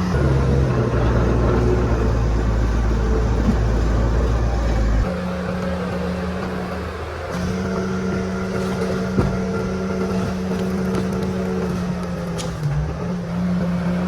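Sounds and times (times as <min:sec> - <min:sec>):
logs dragging: 0:00.0 - 0:05.8, 0:06.4 - 0:12.9
bulldozer diesel engine running: 0:00.0 - 0:14.0.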